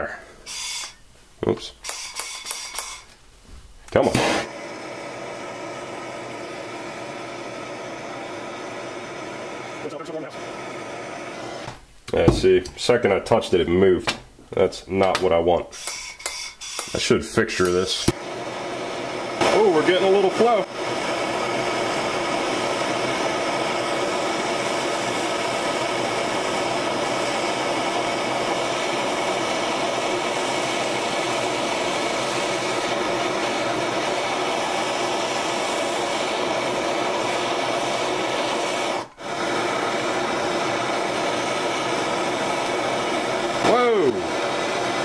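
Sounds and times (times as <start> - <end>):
gas torch flame hissing: 0.0 - 3.2, 3.8 - 45.0.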